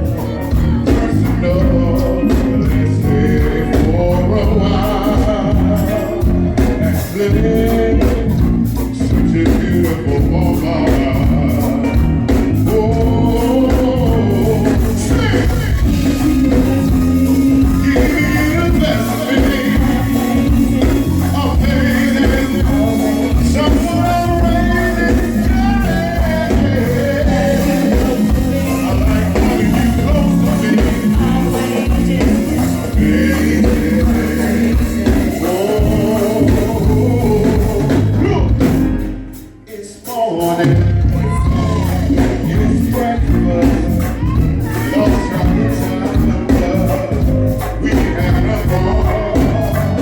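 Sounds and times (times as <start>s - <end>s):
person singing: 0.0s - 39.0s, 39.6s - 50.0s
band playing bass and percussion groove: 0.0s - 50.0s.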